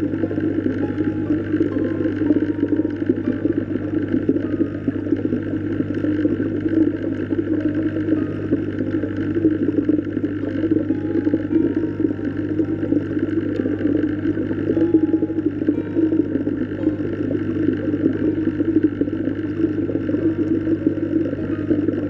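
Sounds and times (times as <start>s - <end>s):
churning crackling water: 0.0s - 22.0s
low underwater hum: 0.0s - 22.0s.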